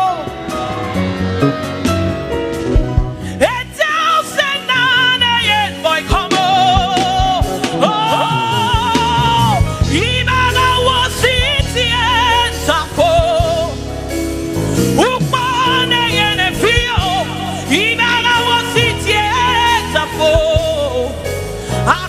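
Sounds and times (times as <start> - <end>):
band with bass and drums: 0.0 - 22.0.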